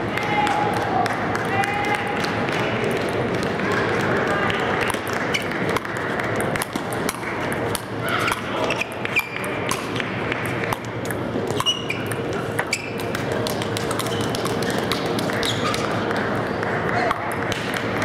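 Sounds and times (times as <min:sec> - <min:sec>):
murmur of crowd: 0:00.0 - 0:18.0
table tennis balls pinging: 0:00.0 - 0:18.0.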